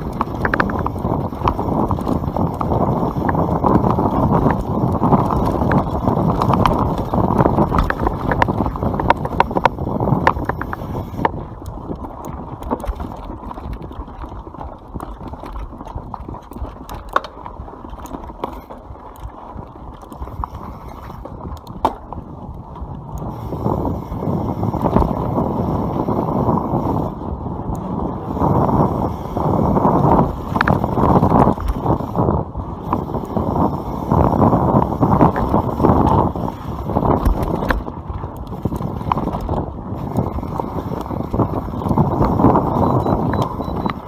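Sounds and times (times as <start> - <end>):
bike chain and frame rattling: 0.0 - 44.0
bike tyres rumbling on dirt: 0.0 - 44.0.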